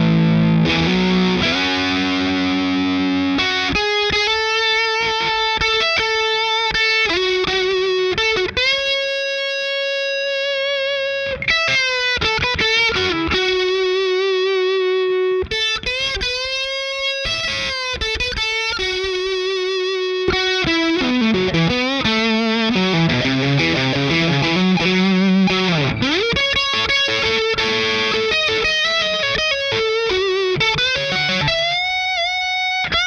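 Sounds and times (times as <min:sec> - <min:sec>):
overdriven electric guitar lead: 0:00.0 - 0:33.0.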